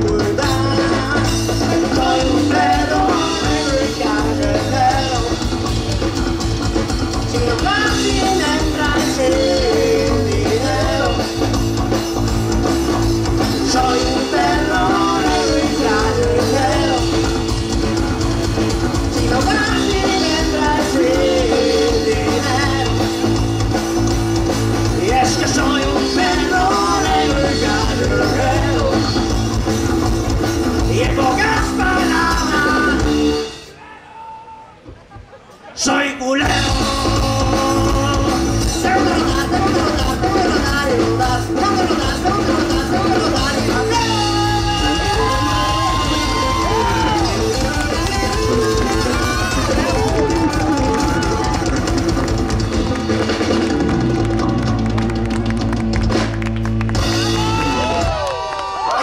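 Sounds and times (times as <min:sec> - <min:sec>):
live rock band playing: 0:00.0 - 0:33.8, 0:36.4 - 0:59.0.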